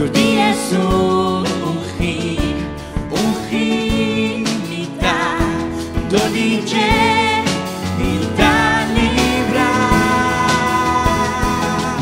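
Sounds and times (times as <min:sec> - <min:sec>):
acoustic guitar: 0:00.0 - 0:12.0
keyboard: 0:00.0 - 0:12.0
people singing in harmony: 0:00.0 - 0:12.0.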